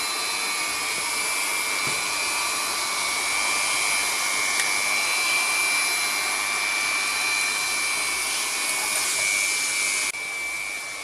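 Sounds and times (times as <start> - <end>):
hot-air gun hissing and whining: 0.0 - 11.0.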